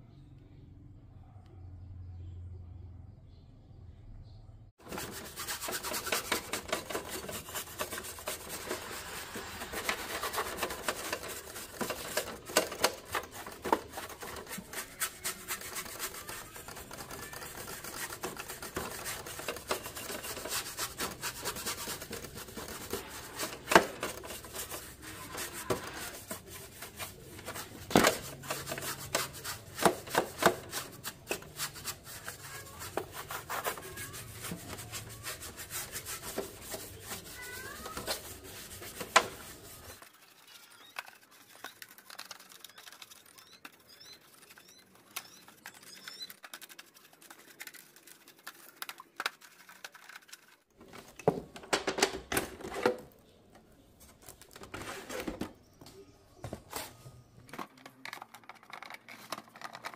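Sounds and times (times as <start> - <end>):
rubbing and scraping: 4.8 - 51.6, 52.4 - 55.6.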